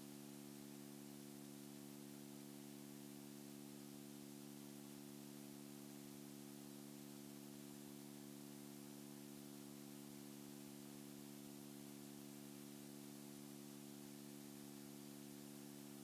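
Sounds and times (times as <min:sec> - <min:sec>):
low hum with faint hiss: 0:00.0 - 0:16.0.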